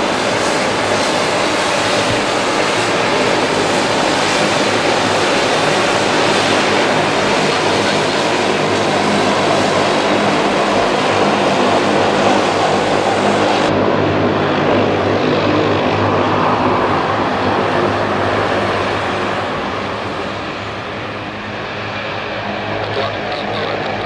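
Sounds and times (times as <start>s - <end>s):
low propeller hum: 0.0s - 24.0s
turboprop engines droning: 0.0s - 24.0s.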